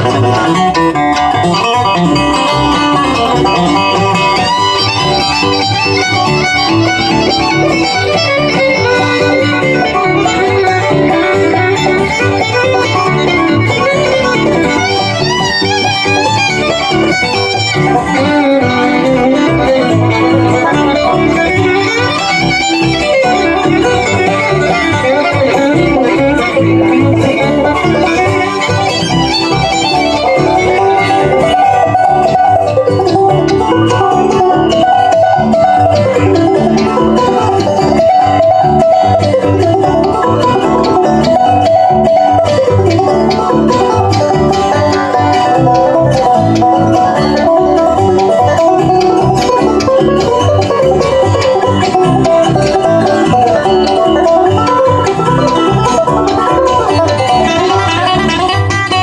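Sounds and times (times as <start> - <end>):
banjo: 0.0 - 59.0
bluegrass band playing: 0.0 - 59.0.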